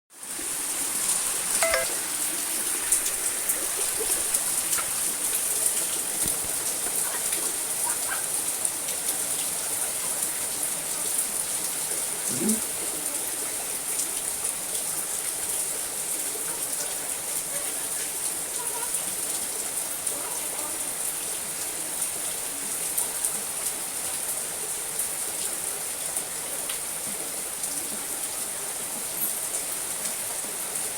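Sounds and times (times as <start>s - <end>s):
rain on a roof: 0.1s - 30.9s.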